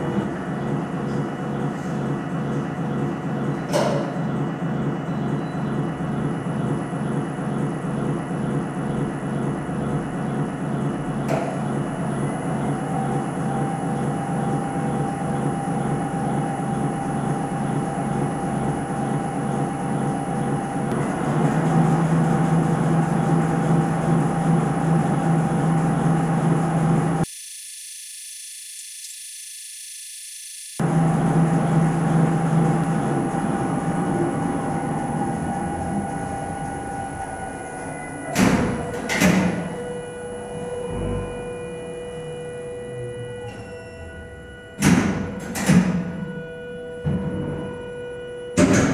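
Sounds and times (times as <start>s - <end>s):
paint can mixers whirring: 0.0s - 27.3s, 30.8s - 46.2s.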